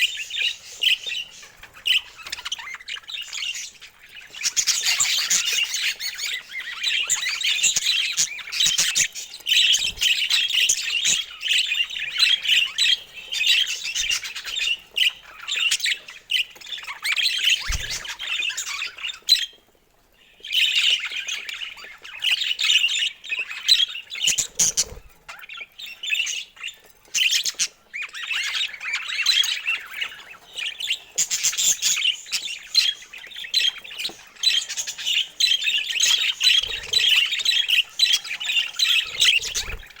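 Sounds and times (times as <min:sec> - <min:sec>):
budgerigars chattering and warbling: 0:00.0 - 0:40.0.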